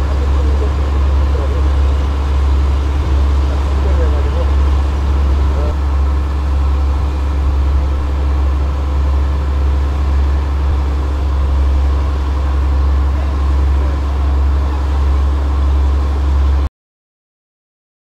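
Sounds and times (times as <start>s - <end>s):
heavy engines droning: 0.0s - 16.7s.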